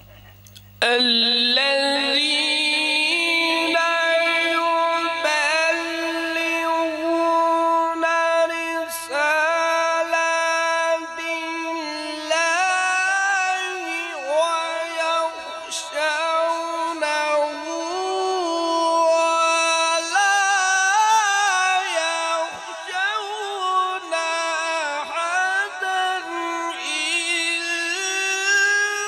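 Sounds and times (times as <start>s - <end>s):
man chanting into a microphone: 0.8s - 29.0s.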